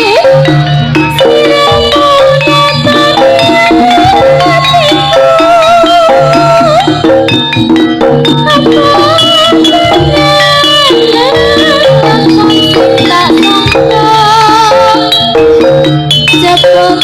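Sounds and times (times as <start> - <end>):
pitched percussion and drums: 0.0 - 17.0
wavering lead melody: 0.0 - 17.0.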